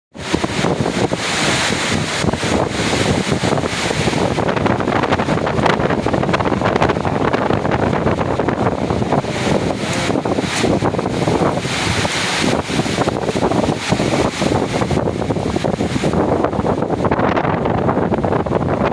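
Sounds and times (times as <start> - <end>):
gusting wind on microphone: 0.1 - 18.9.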